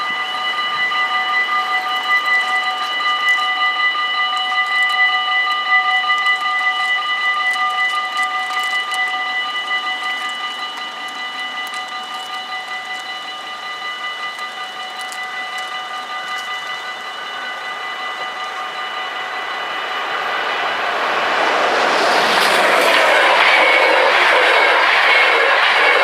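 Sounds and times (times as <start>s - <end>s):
approaching train: 0.0s - 26.0s
level crossing warning bells: 0.0s - 26.0s.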